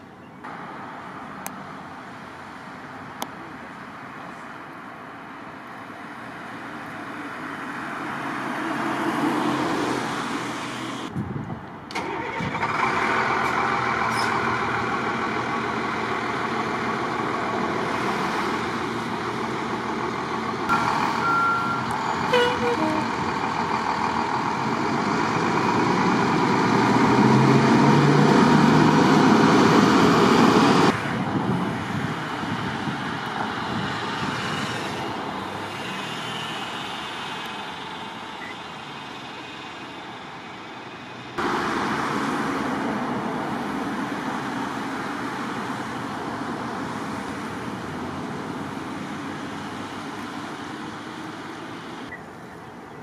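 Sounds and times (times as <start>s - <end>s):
trucks and cars driving past: 0.0s - 53.0s.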